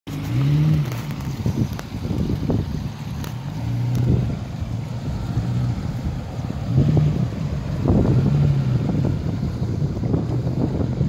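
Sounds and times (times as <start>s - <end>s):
car engine at low revs: 0.1s - 11.0s
wind buffeting microphone: 0.2s - 11.0s.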